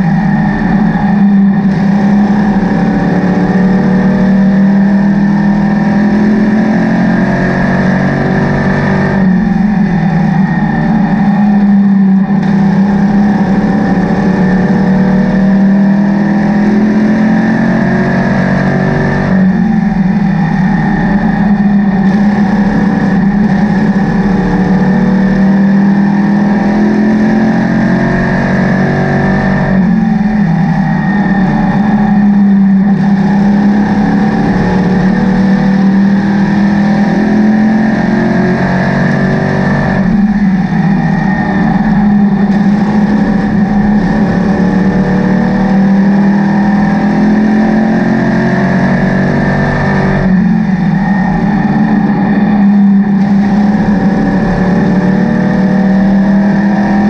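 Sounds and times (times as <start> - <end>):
race car engine from cockpit: 0.0 - 57.0.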